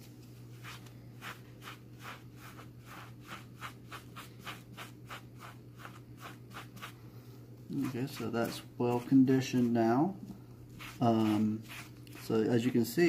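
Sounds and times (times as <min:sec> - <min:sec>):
sponge scrubbing leather: 0:00.6 - 0:07.0, 0:07.7 - 0:09.9, 0:10.8 - 0:13.0.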